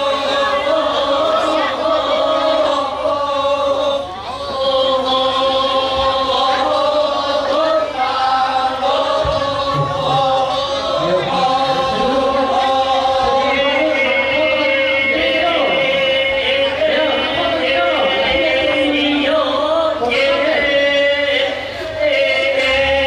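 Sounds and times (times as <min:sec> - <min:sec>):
choir chanting long notes: 0:00.0 - 0:23.0.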